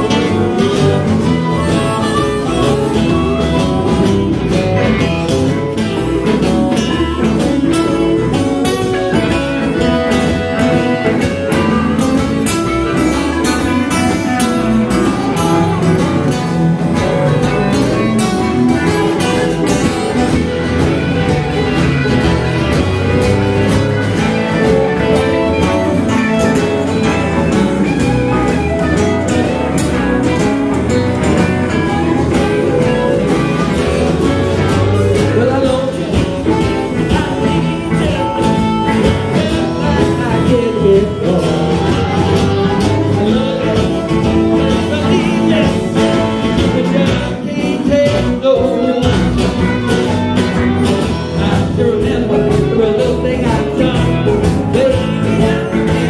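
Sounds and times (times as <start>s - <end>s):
electric guitars: 0.0s - 56.0s
harmonica: 0.0s - 56.0s.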